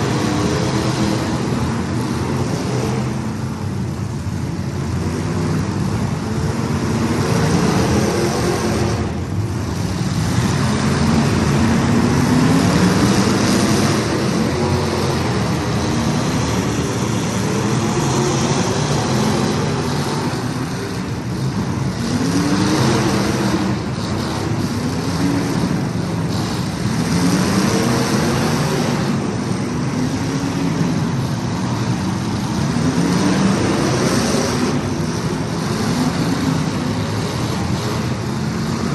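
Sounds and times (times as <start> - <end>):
racing engines revving: 0.0 - 38.9.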